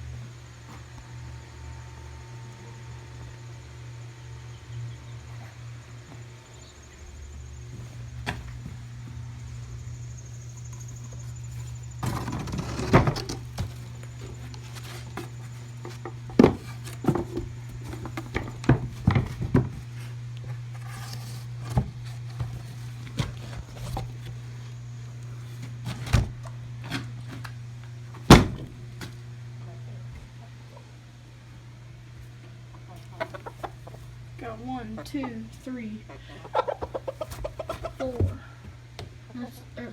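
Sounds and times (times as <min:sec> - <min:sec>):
low hum: 0:00.0 - 0:36.7.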